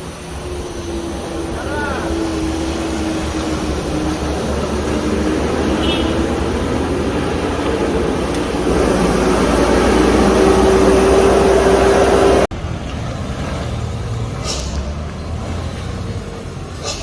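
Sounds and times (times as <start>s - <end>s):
heavy vehicle engine droning: 0.0s - 17.0s
road noise: 0.0s - 17.0s.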